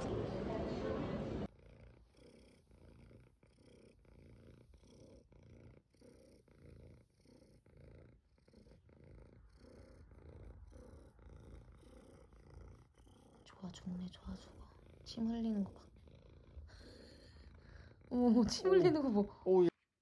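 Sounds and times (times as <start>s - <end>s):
cat purring: 0.0s - 19.5s.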